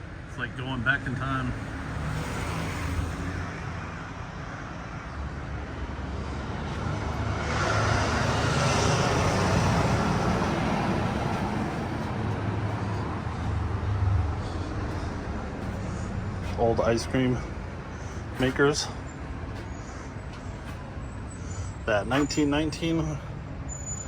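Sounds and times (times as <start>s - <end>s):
car passing: 1.2s - 22.4s.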